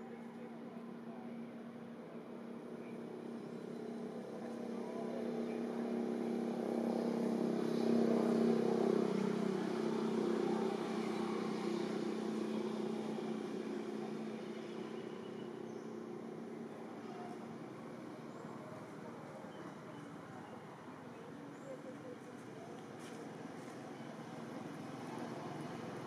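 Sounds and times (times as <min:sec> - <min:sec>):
passing vehicle engine hum: 0:00.6 - 0:26.0.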